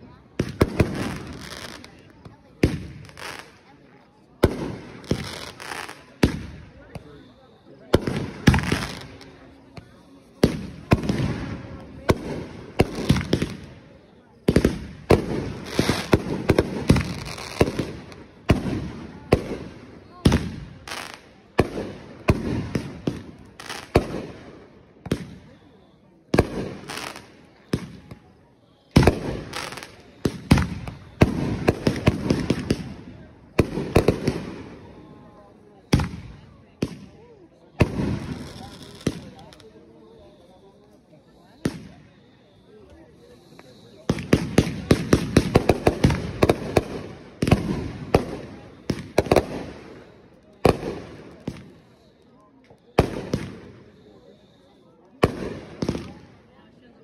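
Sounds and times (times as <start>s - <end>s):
fireworks bangs with rumbling tail: 0.3s - 3.5s, 4.4s - 25.6s, 26.2s - 28.3s, 28.9s - 35.1s, 35.8s - 39.6s, 41.6s - 42.6s, 43.2s - 52.2s, 53.0s - 54.2s, 55.2s - 56.3s
fireworks hissing: 4.4s - 25.5s, 26.4s - 28.2s, 28.8s - 35.0s, 36.9s - 56.1s.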